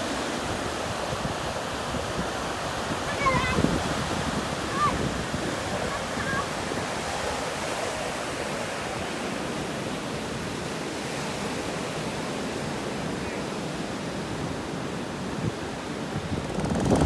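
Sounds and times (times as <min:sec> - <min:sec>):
surf washing up beach: 0:00.0 - 0:17.0.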